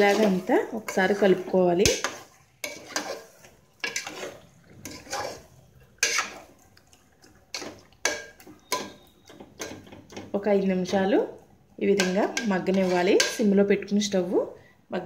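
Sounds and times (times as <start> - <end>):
metal ladle scraping pot: 0.0 - 11.1, 11.8 - 13.6.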